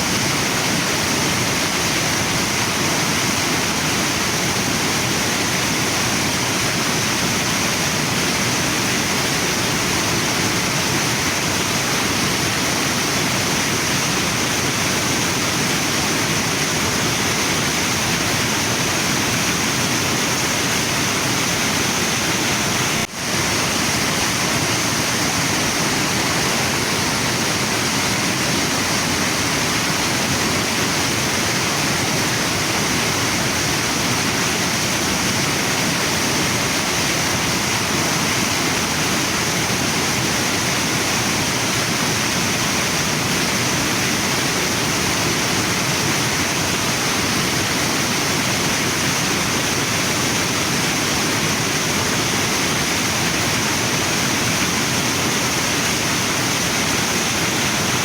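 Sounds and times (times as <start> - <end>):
waterfall and river rushing: 0.0 - 58.0.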